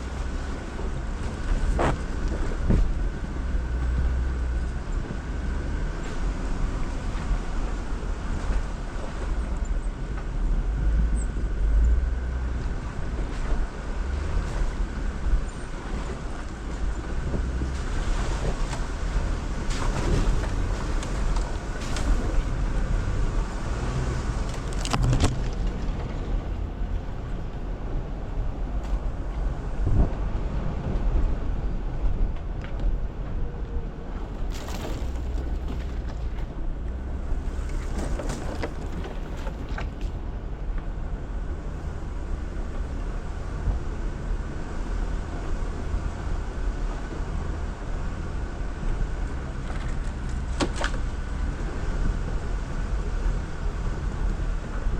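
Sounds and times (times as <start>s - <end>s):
low engine rumble: 0.0s - 54.9s.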